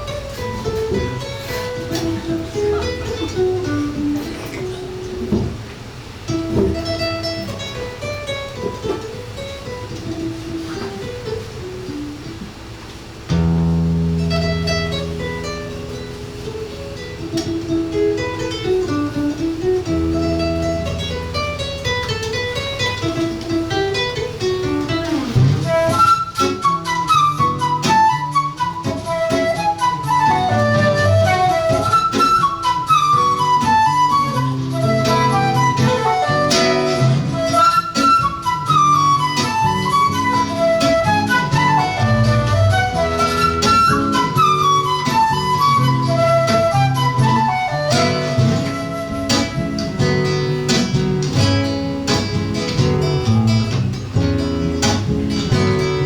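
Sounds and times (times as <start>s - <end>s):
flute melody: 0.0s - 5.5s, 13.3s - 56.0s
strummed guitar chords: 0.0s - 56.0s.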